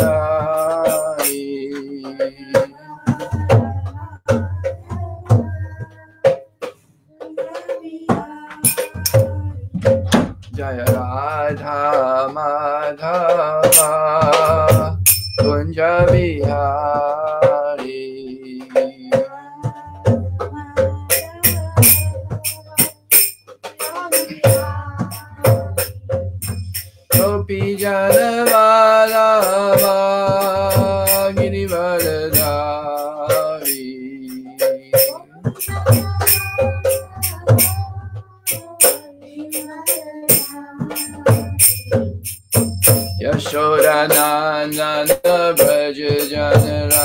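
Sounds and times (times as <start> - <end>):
man singing: 0.0 - 6.1, 7.3 - 23.0, 23.8 - 26.0, 27.1 - 41.7, 43.2 - 47.0
rattling hand percussion: 0.0 - 47.0.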